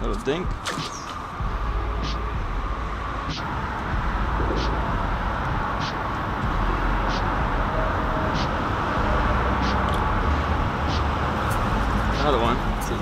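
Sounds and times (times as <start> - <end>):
low rumble under a bridge: 0.0 - 13.0.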